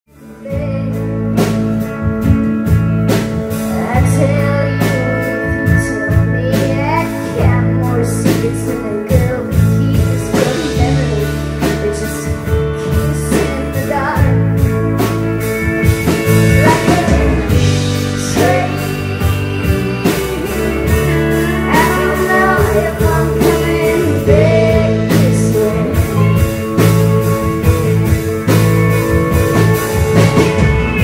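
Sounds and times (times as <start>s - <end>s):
electric guitar: 0.1s - 31.0s
low bass notes: 0.1s - 31.0s
drum kit beat: 0.5s - 31.0s.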